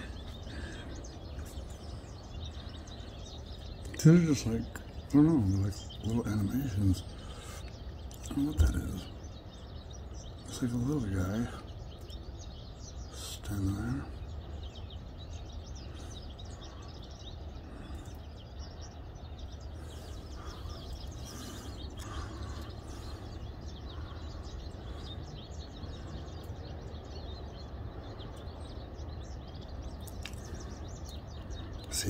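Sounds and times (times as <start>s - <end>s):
background hum and hiss: 0.0s - 32.0s
small birds chirping: 0.0s - 32.0s.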